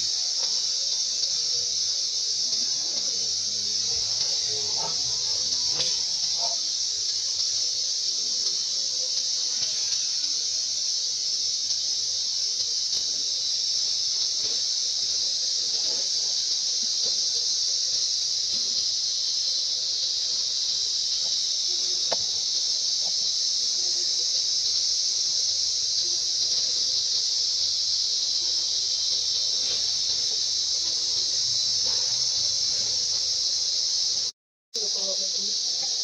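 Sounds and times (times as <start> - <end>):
high-pitched insect drone: 0.0 - 36.0.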